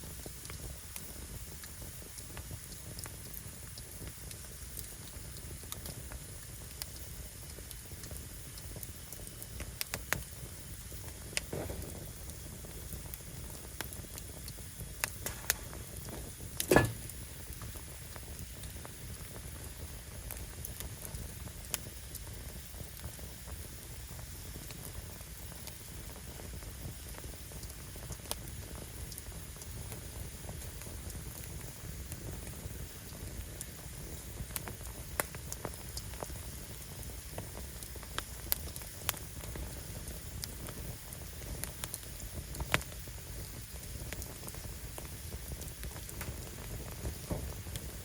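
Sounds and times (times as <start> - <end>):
fire low rumble: 0.0 - 48.0
firewood crackling: 0.0 - 48.0
sharp pops of fire: 0.0 - 48.0.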